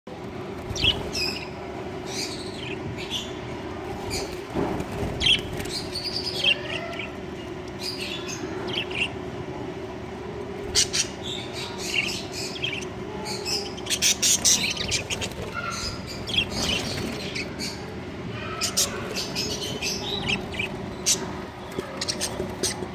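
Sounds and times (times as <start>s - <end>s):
steady low hum: 0.1s - 22.9s
budgerigars chirping and chattering: 0.6s - 9.2s, 10.6s - 22.9s.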